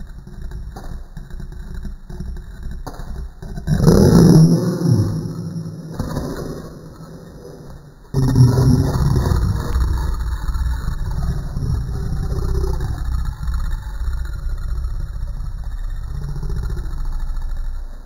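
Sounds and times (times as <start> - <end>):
slowed-down dog growling: 0.0 - 18.0.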